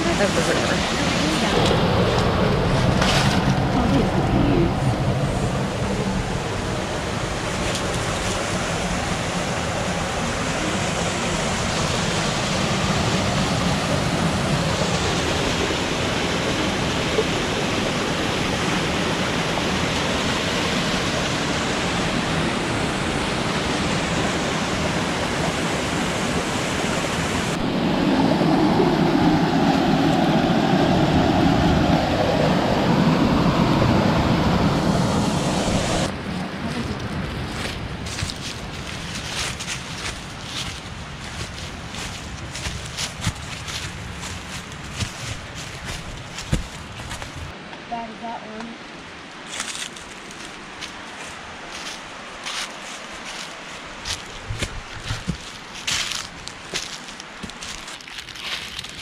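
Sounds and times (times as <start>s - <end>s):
mountain creek flowing water: 0.0s - 27.8s, 34.4s - 59.0s.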